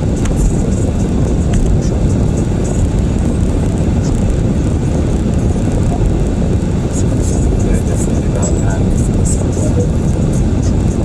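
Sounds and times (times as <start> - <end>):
tyre and road noise in car: 0.0 - 11.0.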